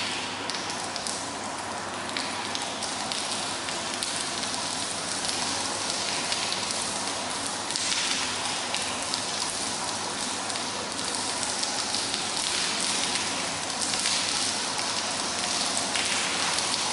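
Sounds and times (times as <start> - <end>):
rain falling on tiled floor: 0.0 - 16.9.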